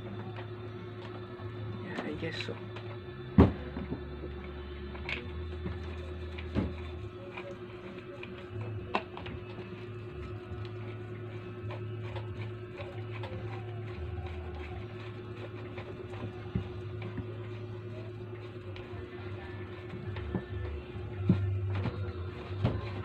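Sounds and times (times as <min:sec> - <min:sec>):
quiet background music: 0:00.0 - 0:23.0.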